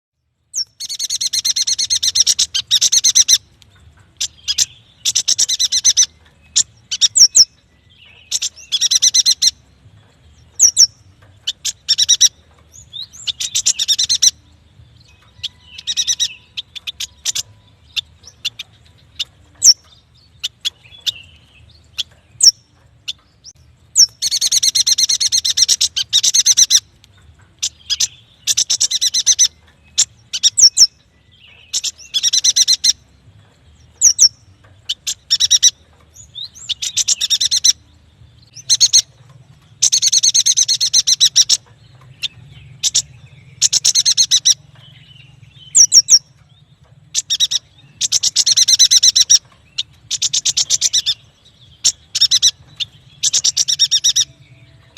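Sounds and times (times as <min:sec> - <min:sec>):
bird chattering and chirping: 0:00.5 - 0:54.9.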